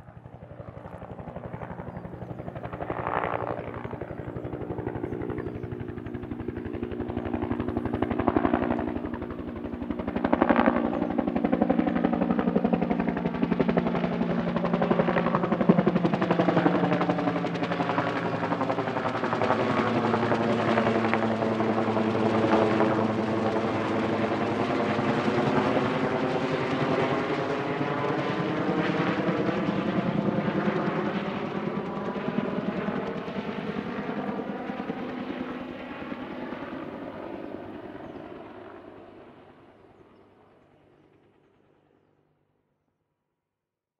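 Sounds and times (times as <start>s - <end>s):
helicopter flying past: 0.0s - 42.9s.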